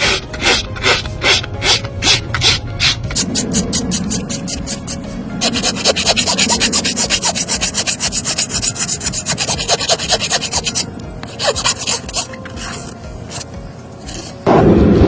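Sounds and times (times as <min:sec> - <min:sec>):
rasp filing a hoof: 0:00.0 - 0:14.5.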